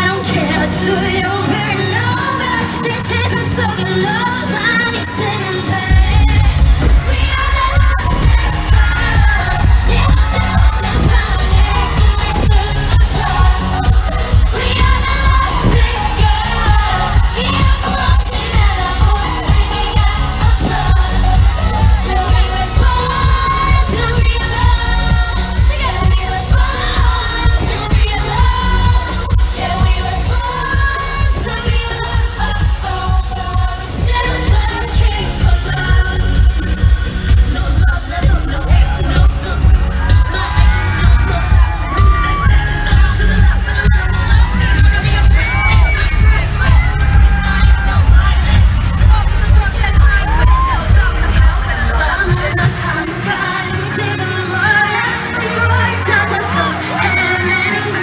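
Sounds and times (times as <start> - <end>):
female vocals: 0.0 - 58.0
live concert pop music: 0.0 - 58.0
women singing into microphones: 0.0 - 58.0
live band with heavy bass beat: 5.6 - 34.2, 34.9 - 53.5.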